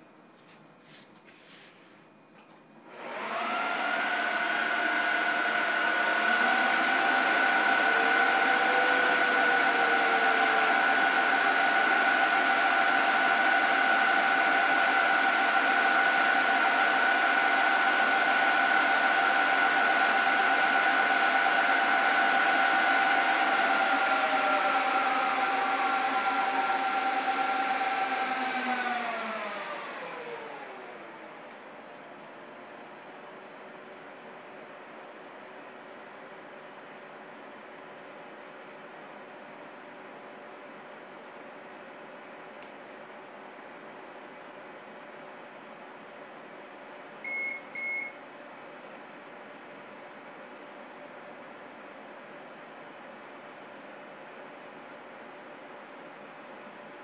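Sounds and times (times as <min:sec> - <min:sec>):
server fans whining: 0:00.0 - 0:57.0.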